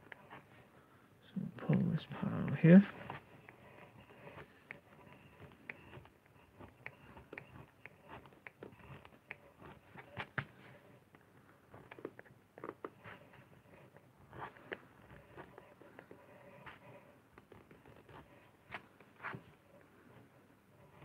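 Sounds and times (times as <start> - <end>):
gouge scraping lino: 1.6 - 21.0.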